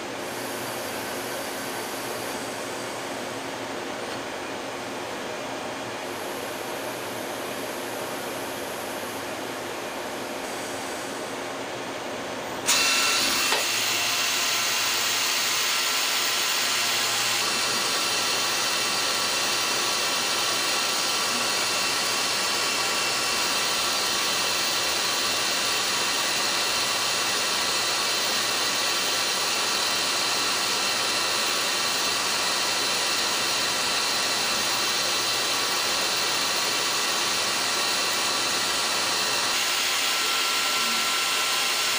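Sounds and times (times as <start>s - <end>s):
lathe machining whir and whine: 0.0s - 41.9s.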